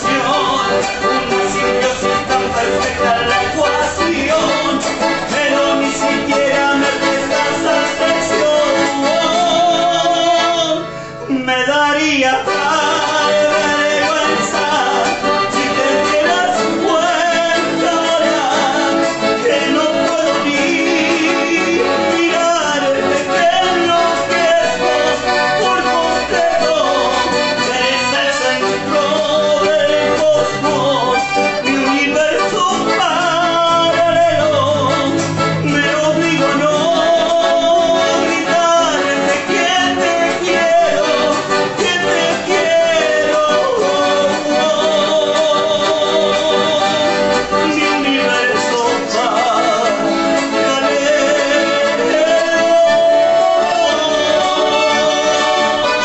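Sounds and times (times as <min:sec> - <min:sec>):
accordion: 0:00.0 - 0:56.0
acoustic guitar: 0:00.0 - 0:56.0
man singing: 0:00.0 - 0:56.0.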